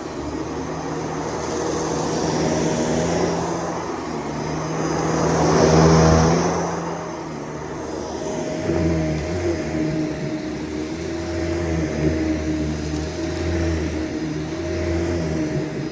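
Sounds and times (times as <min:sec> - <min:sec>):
vacuum cleaner motor humming: 0:00.0 - 0:15.9.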